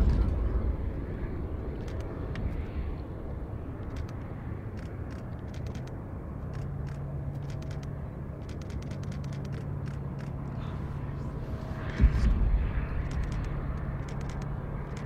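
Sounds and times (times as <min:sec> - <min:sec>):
jet engines rumbling: 0:00.0 - 0:15.0
steady engine hum: 0:00.0 - 0:15.0.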